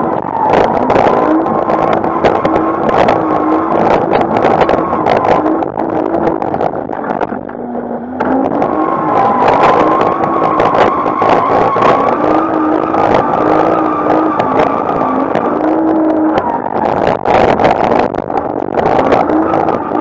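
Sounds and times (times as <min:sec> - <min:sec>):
car engine on rev limiter: 0:00.0 - 0:20.0.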